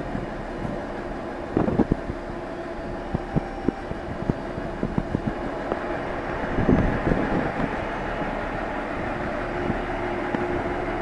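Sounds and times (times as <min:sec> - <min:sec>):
diesel railcar engine idling: 0:00.0 - 0:11.0
wind buffeting microphone: 0:00.0 - 0:11.0.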